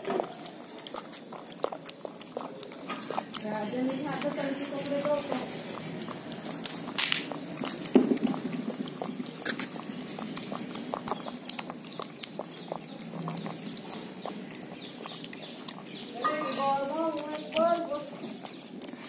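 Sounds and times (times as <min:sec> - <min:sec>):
puppy lapping from a bowl: 0:00.0 - 0:19.0.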